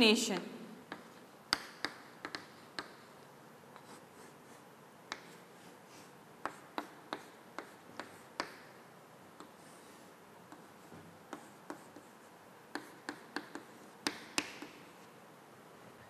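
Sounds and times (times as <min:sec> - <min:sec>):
chalk tapping and scratching on chalkboard: 0:00.8 - 0:03.1, 0:03.7 - 0:08.8, 0:09.4 - 0:15.2.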